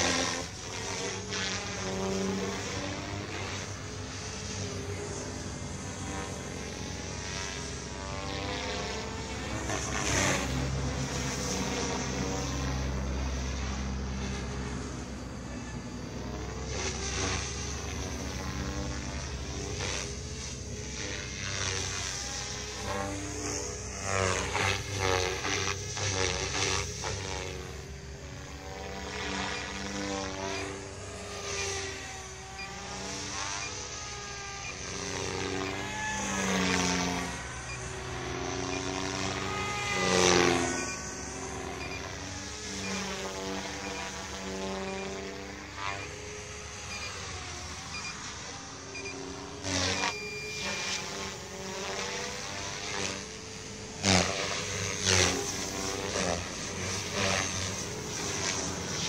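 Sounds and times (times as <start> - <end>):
model airplane motor whining: 0.0 - 59.0.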